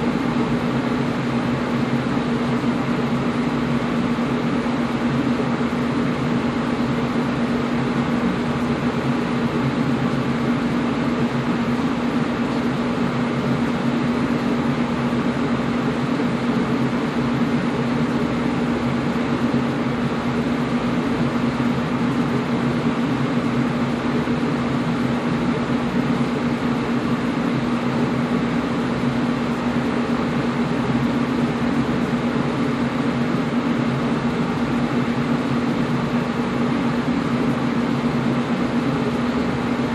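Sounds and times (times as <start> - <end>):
air conditioner running: 0.0 - 39.9.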